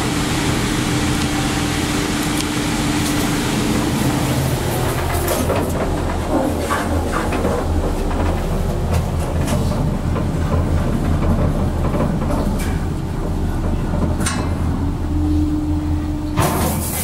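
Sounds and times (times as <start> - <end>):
elevator hum and rumble: 0.0 - 17.0.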